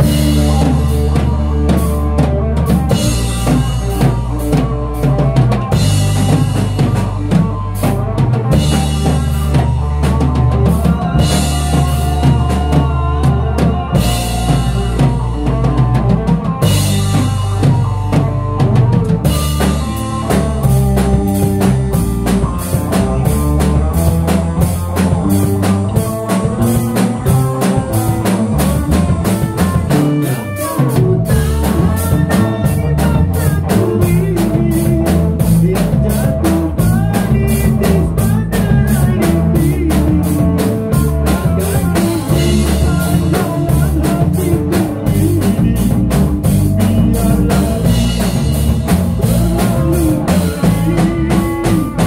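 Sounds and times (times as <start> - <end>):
live band playing instrumental: 0.0 - 52.0
long held bass notes: 0.0 - 52.0
steady drum beat: 0.0 - 52.0.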